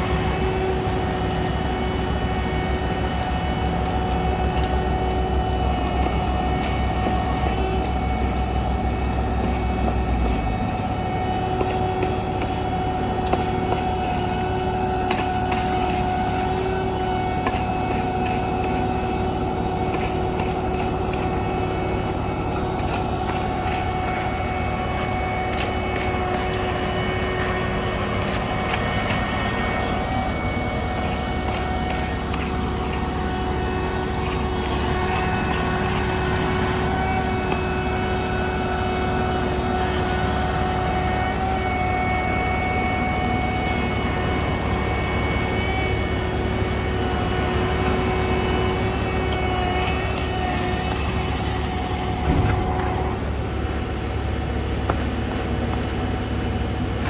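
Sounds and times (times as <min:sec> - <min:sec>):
diesel machinery rumble: 0:00.0 - 0:57.0
steady machinery whine: 0:00.0 - 0:57.0.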